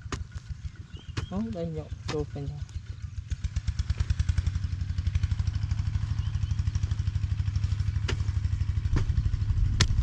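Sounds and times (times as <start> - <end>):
small engine pulsing: 0.0 - 10.0.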